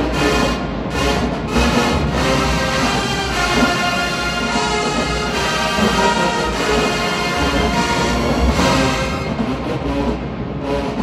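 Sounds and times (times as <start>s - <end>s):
low drums: 0.0s - 11.0s
marching band brass chords: 0.0s - 11.0s.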